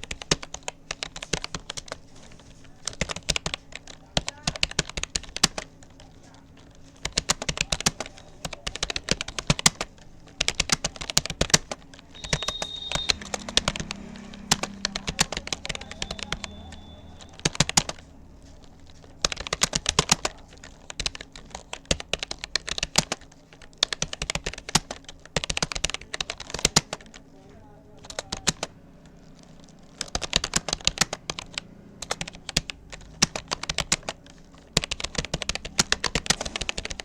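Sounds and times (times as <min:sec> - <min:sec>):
keyboard keystroke clicks: 0:00.0 - 0:37.0.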